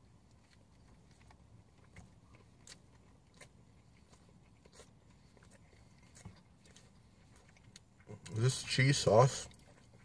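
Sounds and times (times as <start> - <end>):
people chewing: 0.0 - 10.0.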